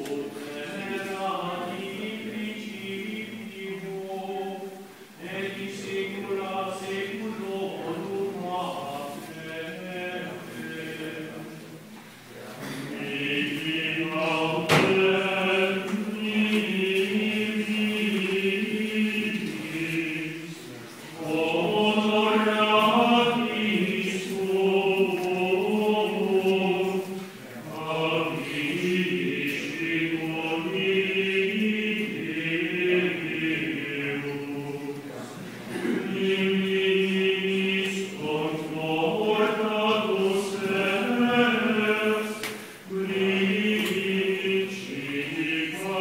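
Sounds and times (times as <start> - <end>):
choir singing plainchant: 0.0 - 46.0.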